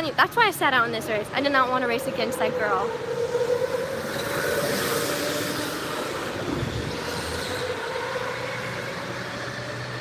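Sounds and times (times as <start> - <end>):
kart motor and tyre noise: 0.0 - 10.0
go-kart mechanical whine: 1.6 - 10.0.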